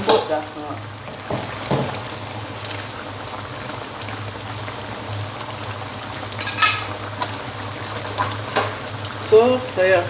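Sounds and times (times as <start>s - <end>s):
broth bubbling in a wok: 0.0s - 10.0s.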